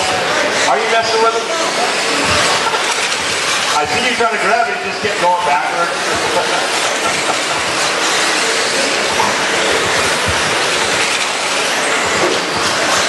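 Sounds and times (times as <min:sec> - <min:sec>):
electric motors whirring: 0:00.0 - 0:13.0.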